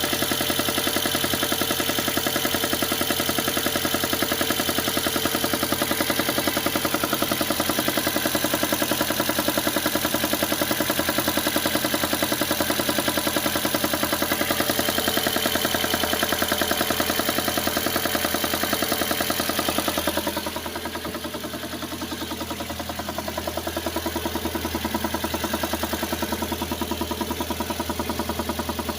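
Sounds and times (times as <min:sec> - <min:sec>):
car engine idling with knocking: 0:00.0 - 0:28.9.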